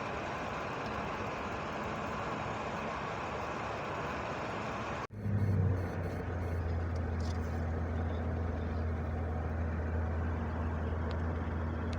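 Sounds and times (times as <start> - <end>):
low engine hum: 0.0 - 11.9.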